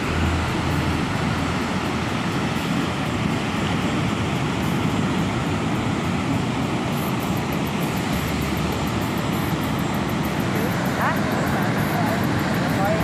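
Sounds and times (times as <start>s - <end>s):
ocean surf roaring: 0.0s - 13.0s.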